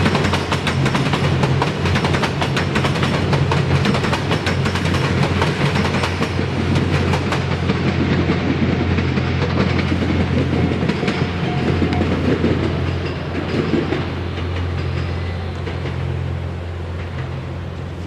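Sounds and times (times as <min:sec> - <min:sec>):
diesel train engine drone: 0:00.0 - 0:18.0
train wheels clicking over rail joints: 0:00.0 - 0:18.0.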